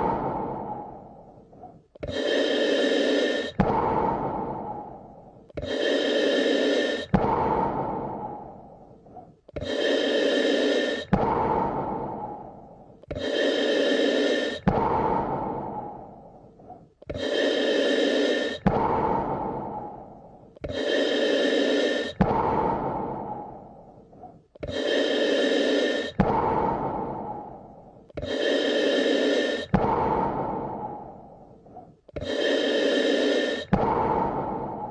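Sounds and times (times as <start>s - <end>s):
person breathing slowly: 0.0s - 34.9s.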